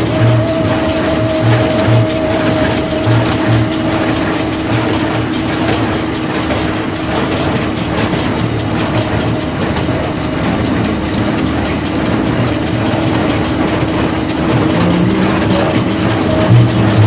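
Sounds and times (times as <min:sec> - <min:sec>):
heavy farm machinery engine humming: 0:00.0 - 0:17.0
light rhythmic clatter: 0:00.0 - 0:17.0.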